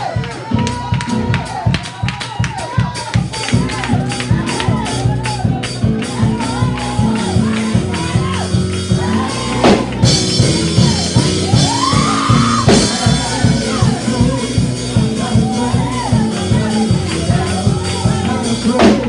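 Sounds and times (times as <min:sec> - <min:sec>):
drums playing quick beat: 0:00.0 - 0:19.0
voices shouting and singing: 0:00.0 - 0:19.0.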